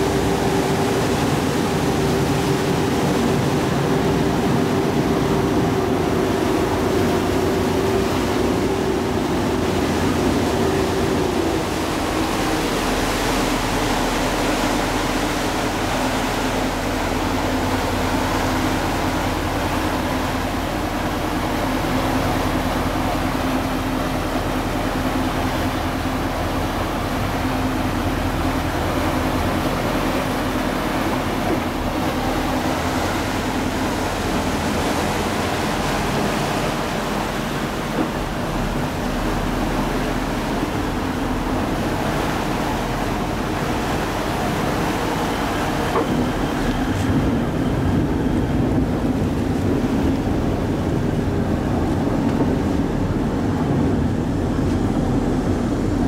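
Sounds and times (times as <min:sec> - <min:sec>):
ferry engine running: 0:00.0 - 0:56.0
water rushing along hull: 0:00.0 - 0:56.0.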